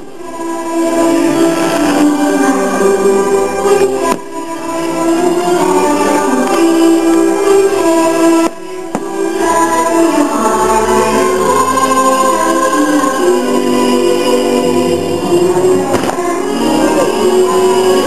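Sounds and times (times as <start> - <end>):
choir singing held notes: 0.0 - 18.0
musical accompaniment: 0.0 - 18.0.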